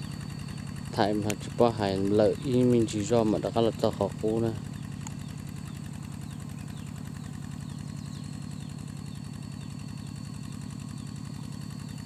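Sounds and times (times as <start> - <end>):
walking tractor engine putter: 0.0 - 12.0.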